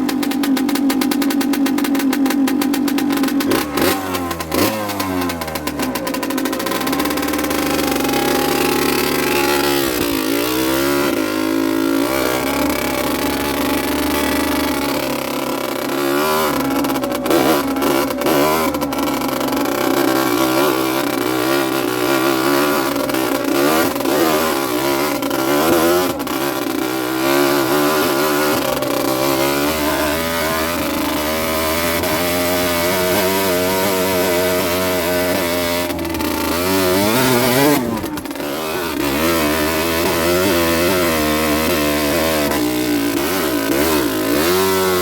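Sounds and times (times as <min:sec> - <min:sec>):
two-stroke motorcycle engine revving: 0:00.0 - 0:45.0.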